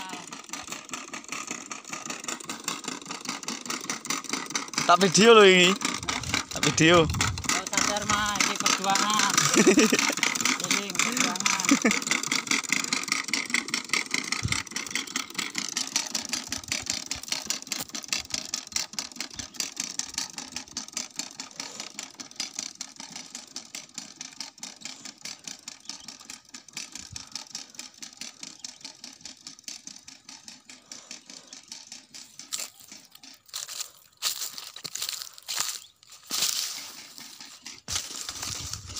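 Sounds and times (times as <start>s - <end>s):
manual planter rattling and clicking: 0.0s - 38.9s.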